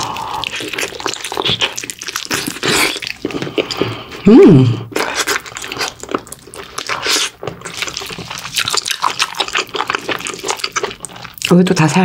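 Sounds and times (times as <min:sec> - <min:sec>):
wet chewing and mouth smacking: 0:00.0 - 0:12.0.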